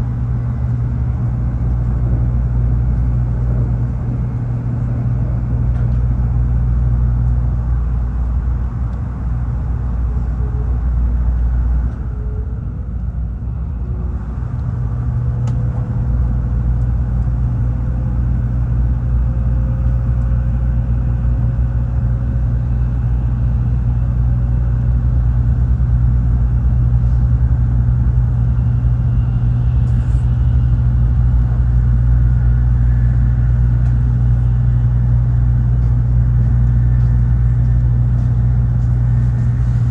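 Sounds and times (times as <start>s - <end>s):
train rumbling inside cabin: 0.0s - 39.9s.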